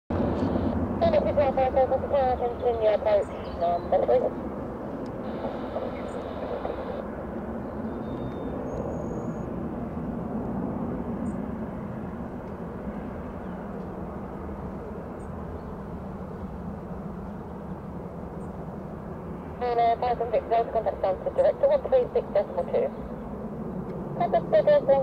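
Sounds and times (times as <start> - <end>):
turboprop engines running: 0.1 - 25.0.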